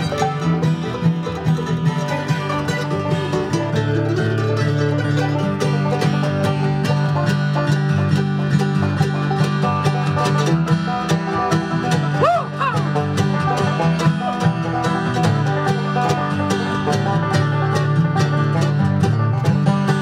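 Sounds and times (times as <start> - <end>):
bluegrass string band playing: 0.0 - 20.0.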